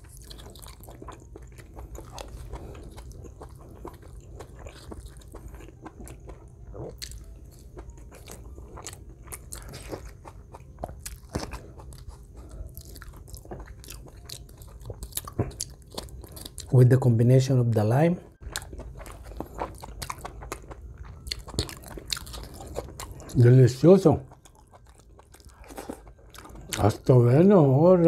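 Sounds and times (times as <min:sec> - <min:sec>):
chewing and crunching food: 0:00.0 - 0:28.0.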